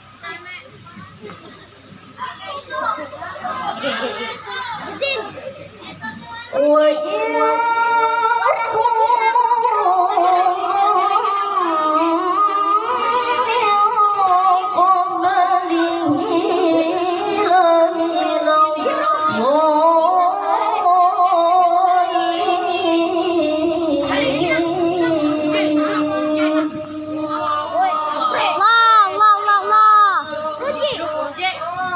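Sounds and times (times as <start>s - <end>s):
boy reciting melodically over pa: 0.0s - 31.9s.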